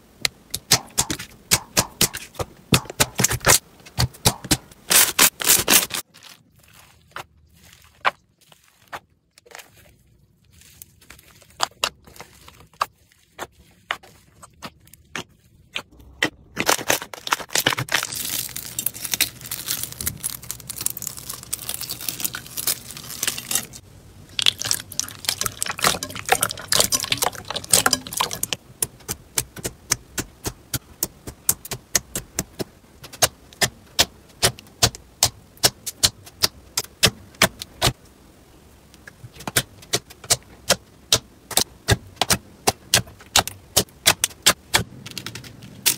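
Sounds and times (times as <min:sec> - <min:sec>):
crunchy slime crackling and popping: 0:00.5 - 0:38.0.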